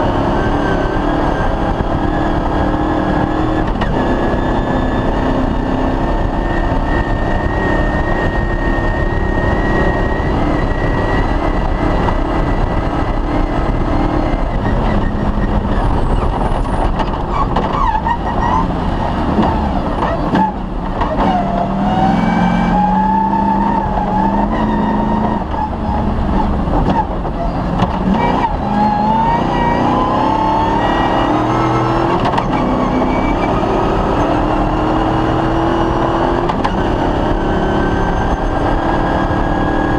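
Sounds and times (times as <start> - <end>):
rally car engine accelerating: 0.0 - 39.9.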